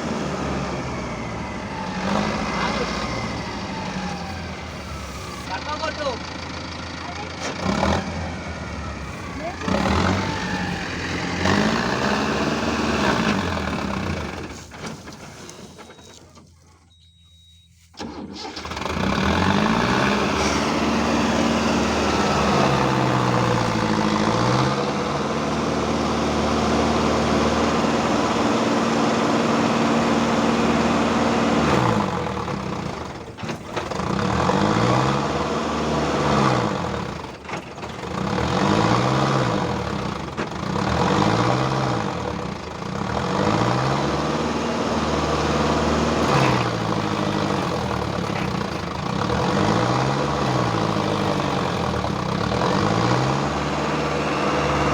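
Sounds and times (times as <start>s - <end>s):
tractor engine revving: 0.0s - 16.9s, 17.7s - 54.9s.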